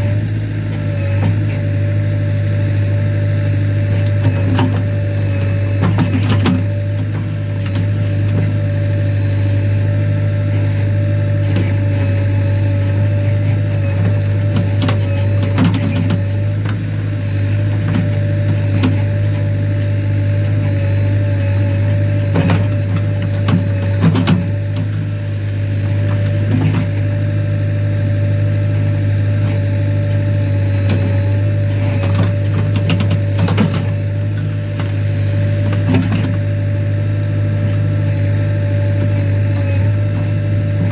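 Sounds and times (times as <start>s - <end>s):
diesel engine running under load: 0.0s - 40.9s.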